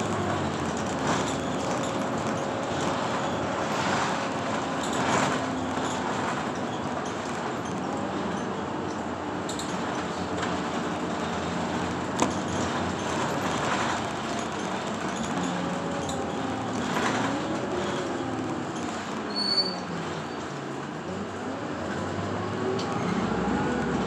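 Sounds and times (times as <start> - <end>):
bus engine running: 0.0 - 24.0
road noise: 0.0 - 24.0.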